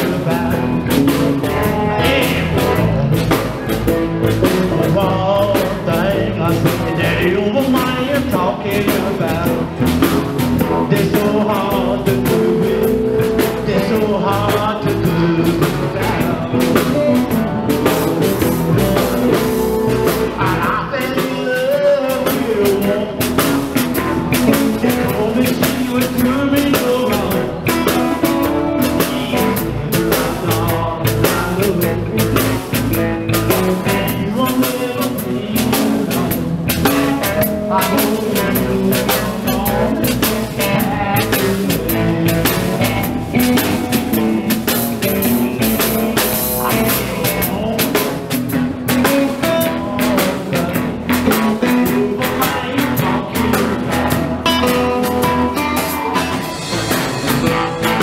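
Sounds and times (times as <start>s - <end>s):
drum kit beat: 0.0s - 58.0s
lead guitar bending line: 0.0s - 58.0s
live rock band playing: 0.0s - 58.0s.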